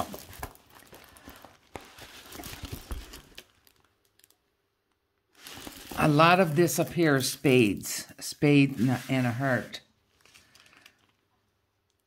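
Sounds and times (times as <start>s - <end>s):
plastic film crinkling: 0.0s - 7.4s, 8.7s - 12.0s.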